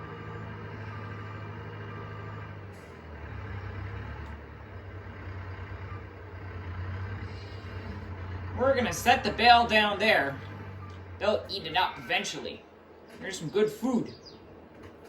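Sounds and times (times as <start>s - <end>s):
telehandler engine running: 0.0s - 15.0s.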